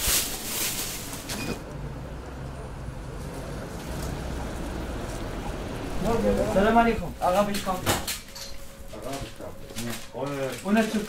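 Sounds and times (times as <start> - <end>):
road traffic rumble: 0.3 - 9.4.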